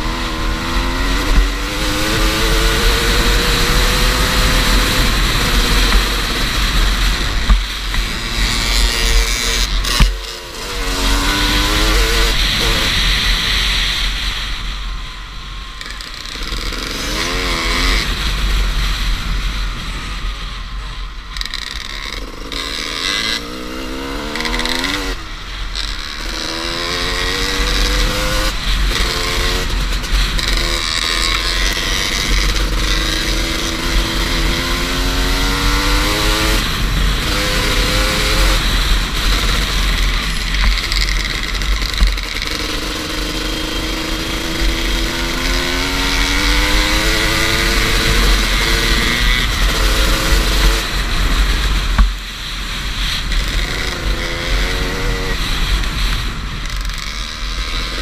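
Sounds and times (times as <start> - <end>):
two-stroke dirt bike engine: 0.0 - 58.0.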